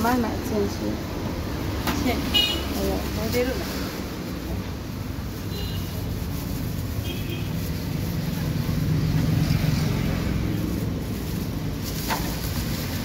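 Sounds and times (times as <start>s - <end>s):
road traffic rumble: 0.0s - 13.0s
vehicle passing close: 0.3s - 13.0s.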